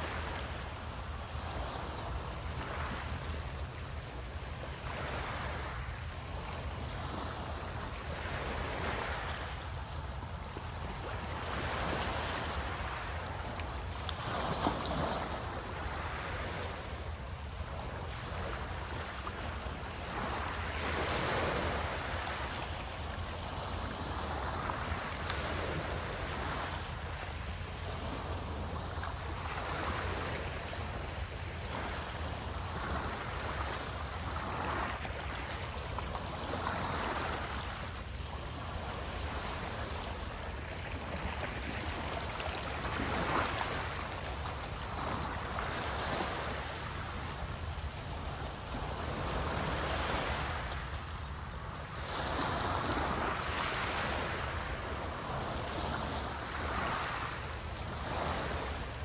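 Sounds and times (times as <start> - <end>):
small waves breaking on shore: 0.0 - 59.0.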